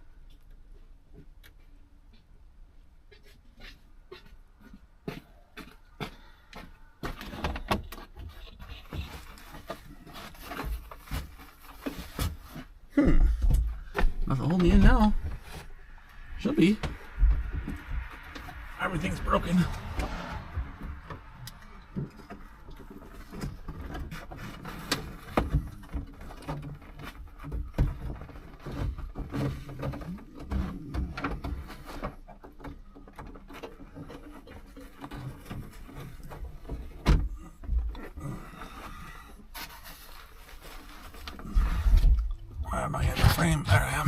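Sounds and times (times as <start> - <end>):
rustling: 5.8 - 12.9, 13.8 - 44.0.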